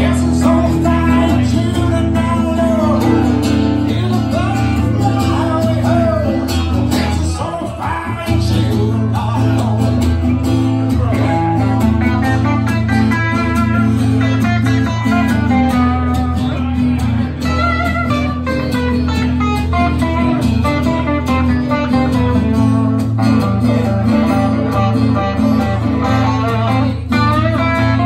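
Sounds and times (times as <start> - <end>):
acoustic guitar strumming: 0.0 - 28.0
electric guitar playing: 0.0 - 28.0.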